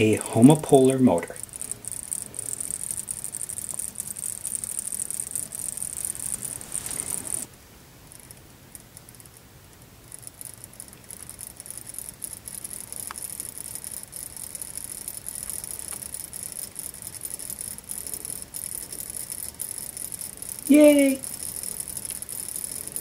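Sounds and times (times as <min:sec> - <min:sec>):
wire contacts rattling and crackling: 0:00.0 - 0:23.0.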